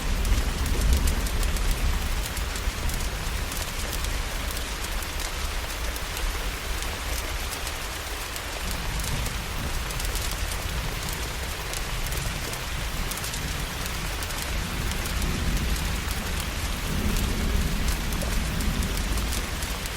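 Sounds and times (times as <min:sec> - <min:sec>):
heavy rain: 0:00.0 - 0:19.9
sharp crackles: 0:00.0 - 0:19.9.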